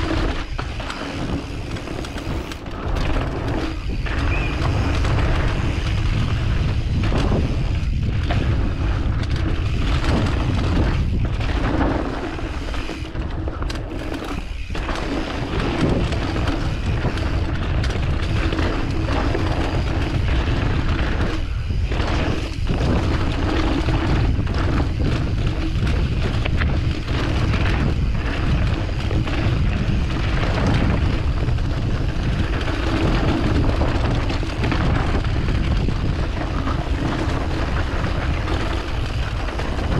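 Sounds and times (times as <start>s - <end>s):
bike knocks and rattles: 0.0s - 39.9s
tyres rumbling on dirt trail: 0.0s - 39.9s
wind on microphone: 0.0s - 39.9s.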